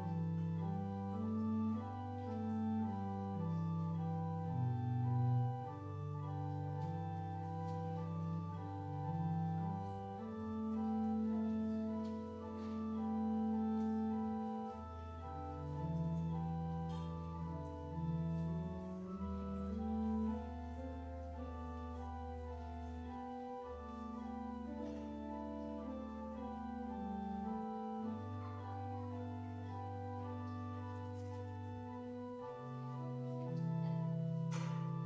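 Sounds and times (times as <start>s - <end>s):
organ playing slow chords: 0.0s - 35.0s.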